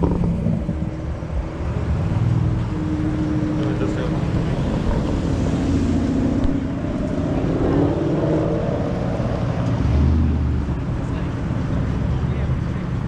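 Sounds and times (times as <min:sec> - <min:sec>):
car engine while driving: 0:00.0 - 0:13.0
road noise: 0:00.0 - 0:13.0.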